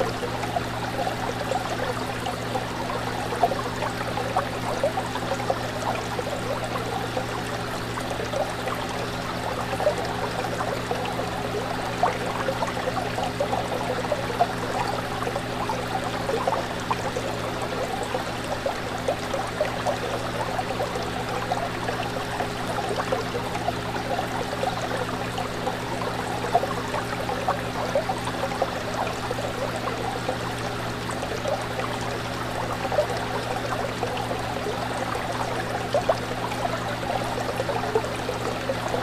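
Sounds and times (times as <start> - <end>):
fish tank water bubbling: 0.0 - 39.0.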